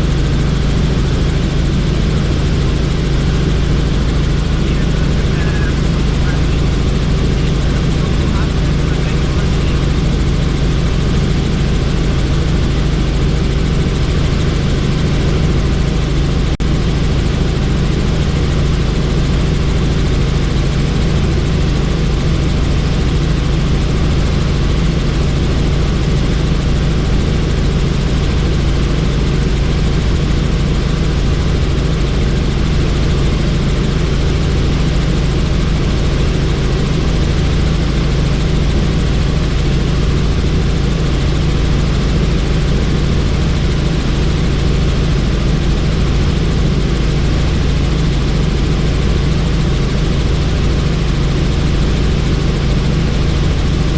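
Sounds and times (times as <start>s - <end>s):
helicopter rotor and engine drone: 0.0s - 53.9s.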